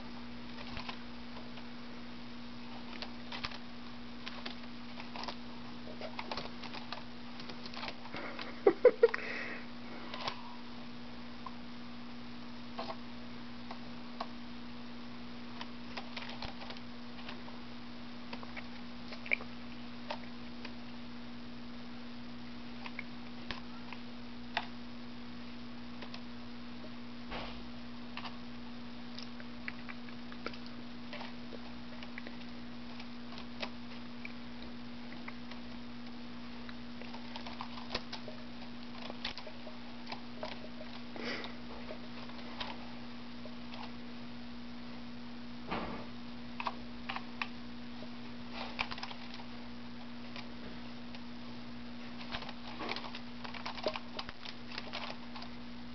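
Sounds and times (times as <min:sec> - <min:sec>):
low electrical hum: 0:00.0 - 0:55.9.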